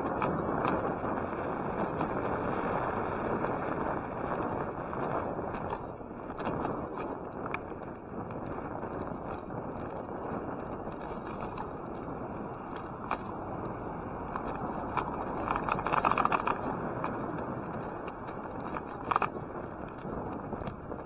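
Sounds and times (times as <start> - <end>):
bicycle rolling on asphalt: 0.0 - 21.0.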